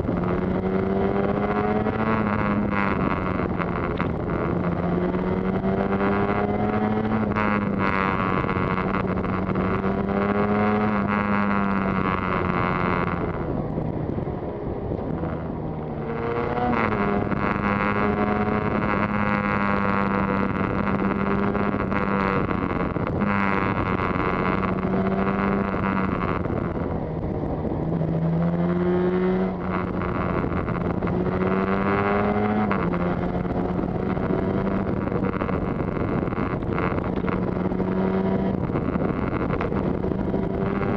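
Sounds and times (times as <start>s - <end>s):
wind noise on microphone: 0.0s - 40.9s.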